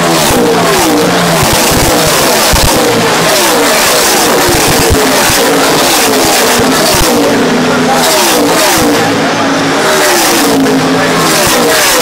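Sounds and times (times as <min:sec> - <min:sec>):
race truck engines passing: 0:00.0 - 0:12.0.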